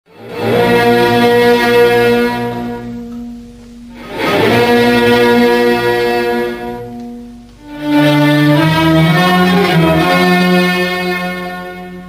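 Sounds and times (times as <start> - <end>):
orchestral bowed strings: 0.1 - 12.0.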